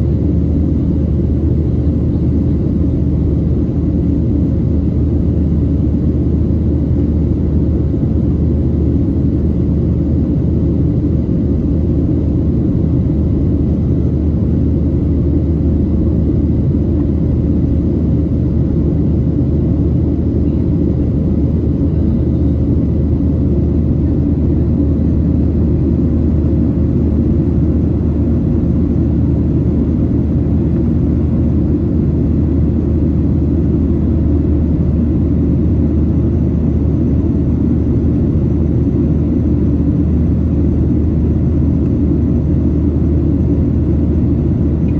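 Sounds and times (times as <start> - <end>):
faint steady hum: 0.0 - 44.9
jet engine cabin drone: 0.0 - 44.9.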